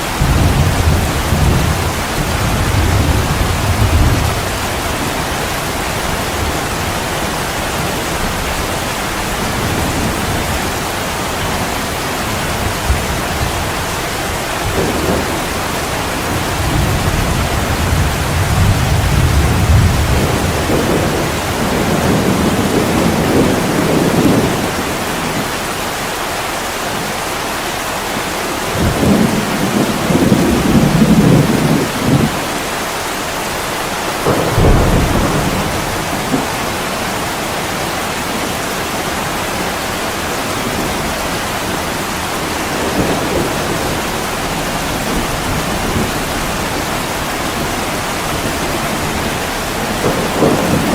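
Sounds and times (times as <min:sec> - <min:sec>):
rolling thunder: 0:00.0 - 0:25.6, 0:28.2 - 0:32.6, 0:33.3 - 0:50.9
thunder clap: 0:00.0 - 0:25.6, 0:28.6 - 0:32.6, 0:33.5 - 0:50.9
heavy rain on a window: 0:00.0 - 0:50.9.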